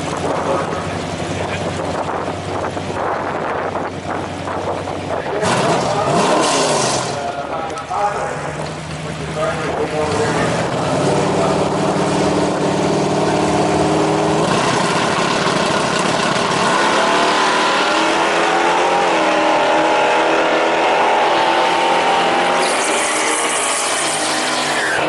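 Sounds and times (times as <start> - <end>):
drag racing engine accelerating: 0.0 - 25.0.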